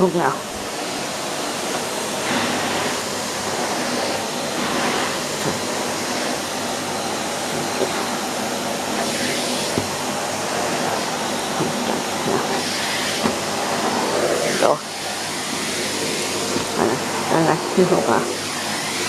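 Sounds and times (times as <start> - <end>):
vacuum cleaner motor running: 0.0 - 19.0.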